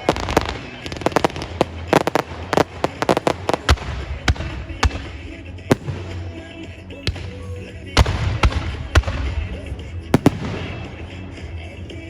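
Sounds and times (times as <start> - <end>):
deep fireworks booms: 0.0 - 12.0
fireworks bangs and crackles: 0.0 - 12.0.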